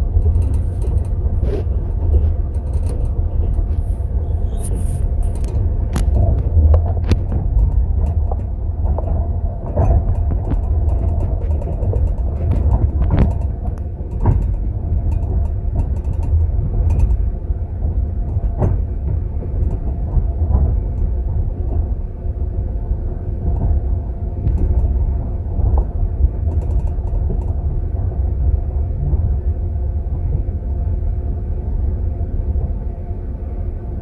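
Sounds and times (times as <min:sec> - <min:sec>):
moving train rumble and clatter: 0:00.0 - 0:34.0.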